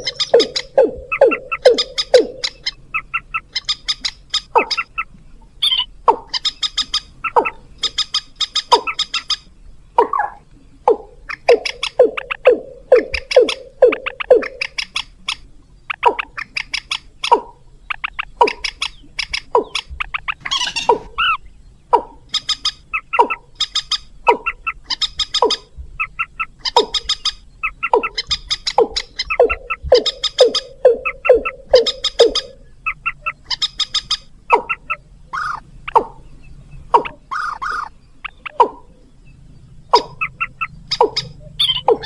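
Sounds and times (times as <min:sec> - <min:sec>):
rail and moorhen calls: 0:00.0 - 0:42.0.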